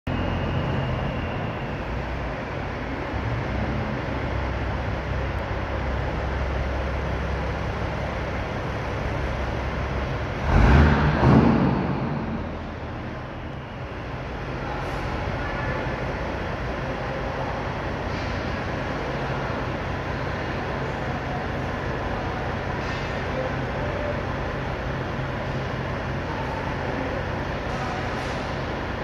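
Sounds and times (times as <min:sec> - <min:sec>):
truck diesel engine rumbling: 0:00.1 - 0:29.0.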